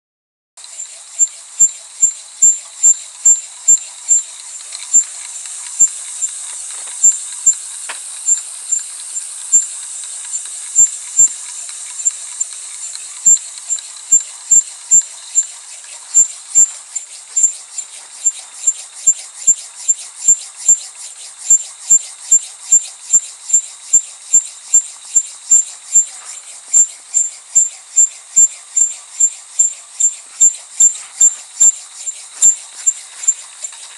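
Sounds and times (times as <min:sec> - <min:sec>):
filing machine clicking and pinging: 0:00.6 - 0:33.9
steady high hiss: 0:00.6 - 0:33.9.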